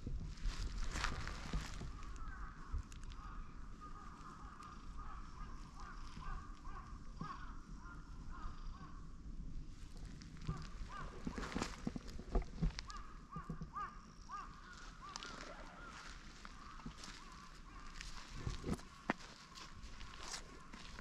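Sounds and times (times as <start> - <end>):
wind rumble on microphone: 0.0 - 21.0
birds calling: 0.5 - 9.3, 9.9 - 21.0.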